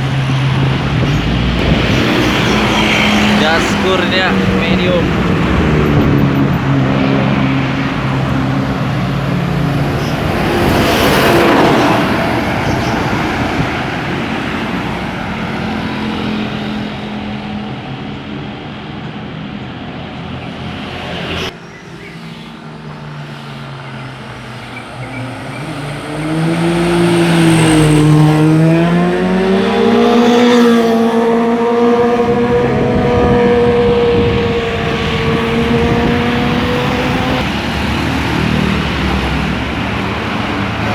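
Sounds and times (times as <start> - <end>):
vehicle engine revving past: 0.0 - 17.0, 25.1 - 40.9
road traffic passing: 0.0 - 40.9.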